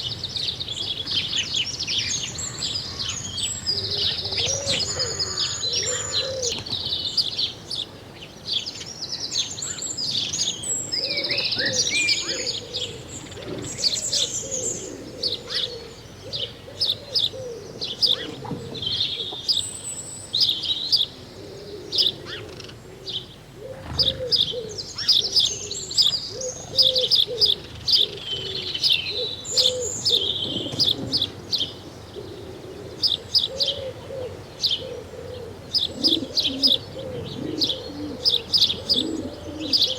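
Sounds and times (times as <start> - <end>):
small birds chirping: 0.0 - 39.9
doves cooing: 2.1 - 8.0, 9.6 - 19.8, 20.8 - 39.9.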